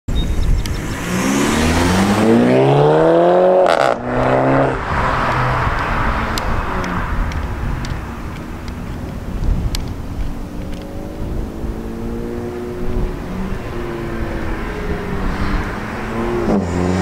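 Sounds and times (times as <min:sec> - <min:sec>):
exhaust crack: 0:00.6 - 0:17.0
car exhaust revving: 0:00.7 - 0:17.0.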